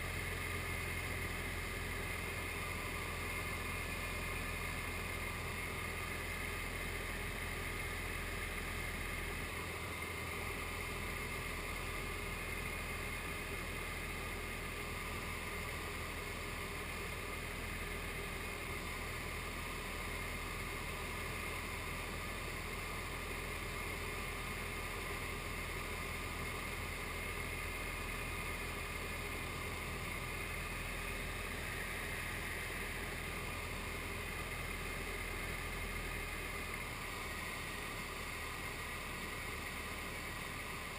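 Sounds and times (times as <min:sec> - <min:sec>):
aircraft engine and propeller drone: 0:00.0 - 0:40.9.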